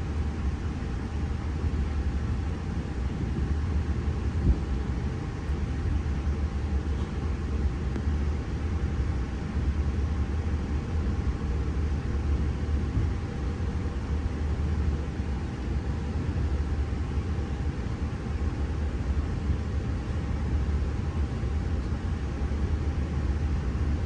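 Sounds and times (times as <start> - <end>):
faint steady whine: 0.0 - 24.0.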